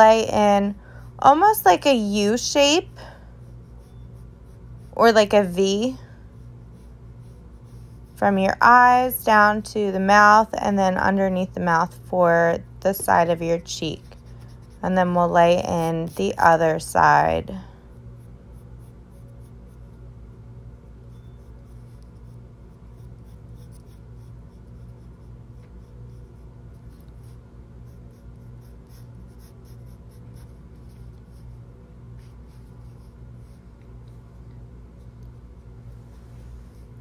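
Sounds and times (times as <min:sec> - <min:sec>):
steady low hum: 0:00.0 - 0:37.0
pencil scratching on paper: 0:01.2 - 0:17.2, 0:17.9 - 0:20.0, 0:20.8 - 0:33.7.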